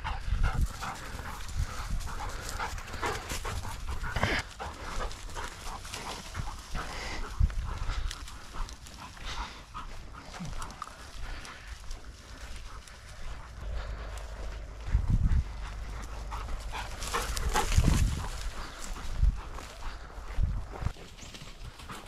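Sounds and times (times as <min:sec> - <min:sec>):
dog panting: 0:00.0 - 0:22.0
footsteps crunching through frosty grass: 0:00.5 - 0:22.0.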